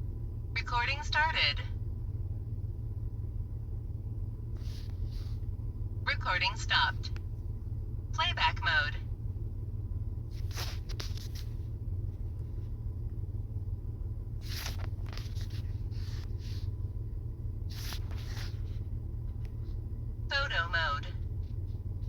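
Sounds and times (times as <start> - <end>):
car cabin engine rumble: 0.0 - 22.0.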